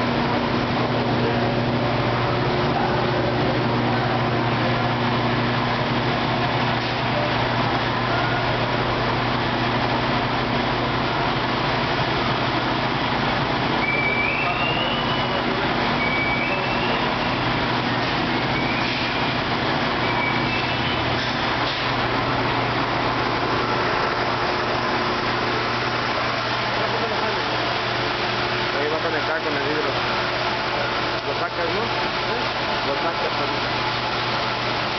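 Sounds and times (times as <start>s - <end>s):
electric pumps humming: 0.0s - 34.9s.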